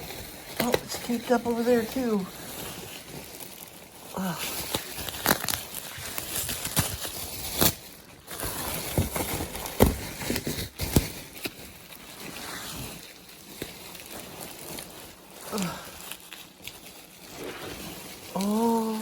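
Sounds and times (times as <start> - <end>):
bubble wrap rustling: 0.0 - 19.0
rustling of cardboard and tape: 0.0 - 19.0.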